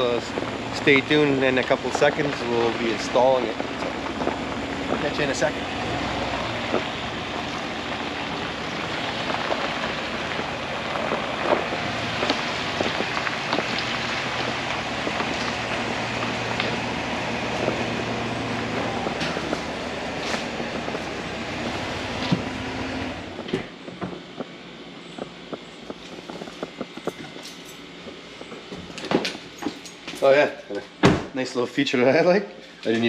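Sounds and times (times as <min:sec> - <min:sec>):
vehicle engine rumble: 0:00.0 - 0:31.8.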